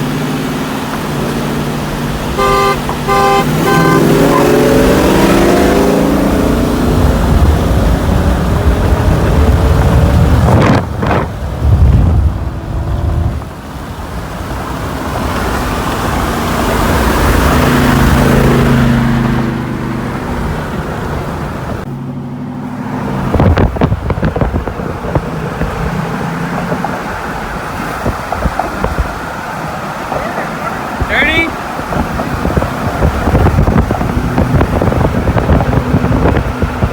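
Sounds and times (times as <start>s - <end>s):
road and wind noise: 0.0s - 36.9s
truck engine accelerating hard: 0.0s - 36.9s.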